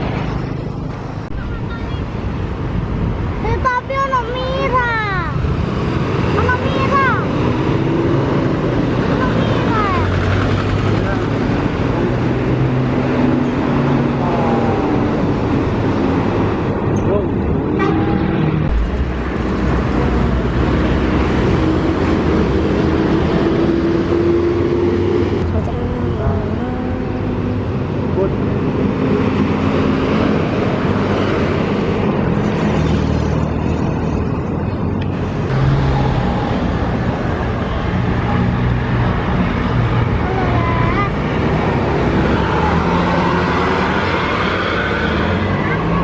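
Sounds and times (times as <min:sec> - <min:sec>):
heavy vehicle engine rumbling: 0:00.0 - 0:46.0
road traffic passing: 0:00.0 - 0:46.0.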